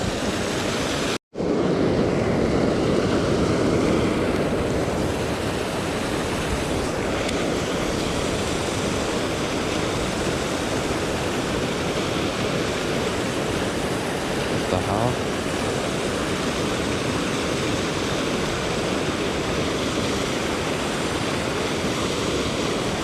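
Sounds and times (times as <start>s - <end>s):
floodwater rushing: 0.0s - 1.5s, 2.1s - 23.0s.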